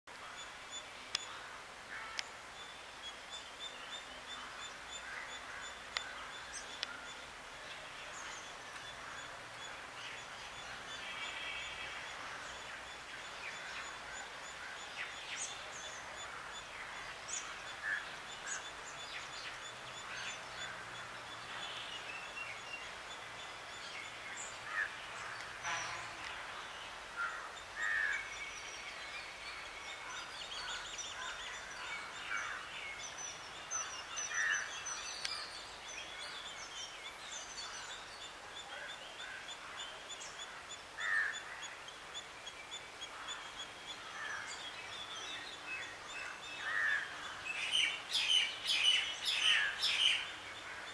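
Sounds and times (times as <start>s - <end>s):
birds chirping: 0.1s - 50.9s.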